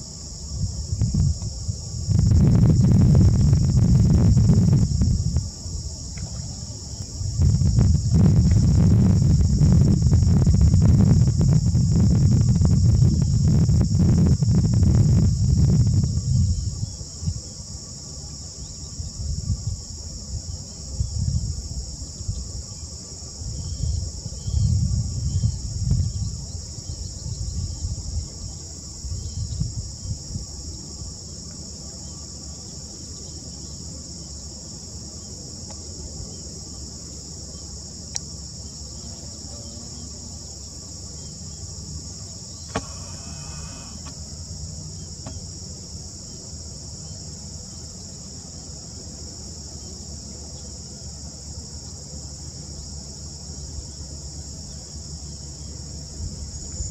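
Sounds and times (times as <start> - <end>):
high-pitched insect chorus: 0.0 - 56.9.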